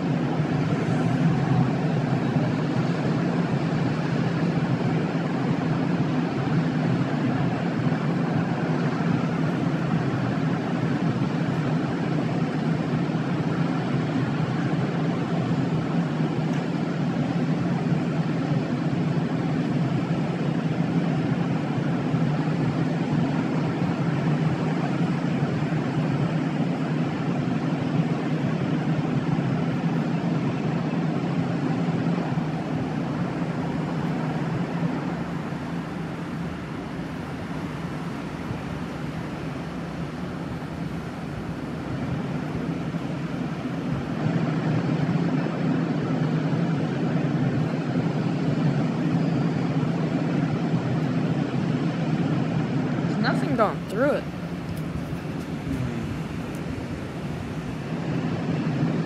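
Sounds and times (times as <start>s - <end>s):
steady outdoor rushing noise: 0.0s - 59.0s.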